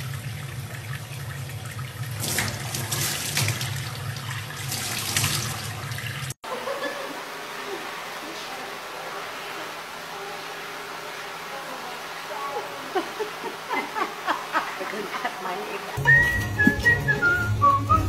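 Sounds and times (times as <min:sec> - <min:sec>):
water running into a steel sink: 0:00.0 - 0:16.0.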